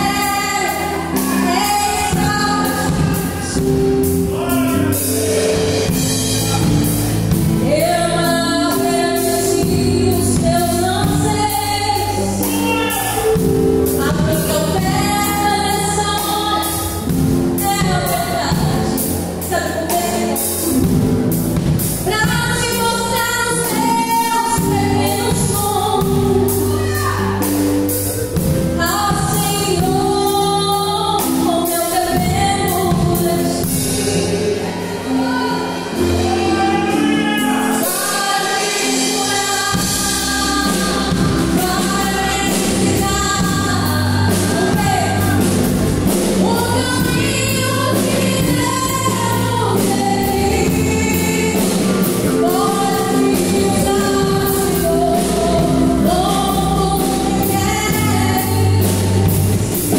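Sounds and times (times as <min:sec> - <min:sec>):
woman singing gospel song: 0:00.0 - 0:04.2, 0:04.9 - 0:21.1, 0:22.0 - 0:59.9
amplified musical backing: 0:00.0 - 0:59.9.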